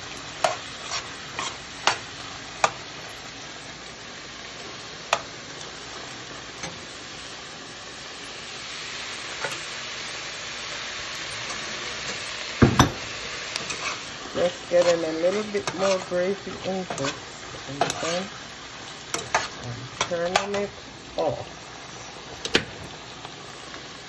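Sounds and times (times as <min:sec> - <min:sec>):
stew sizzling and bubbling in pot: 0:00.0 - 0:24.0.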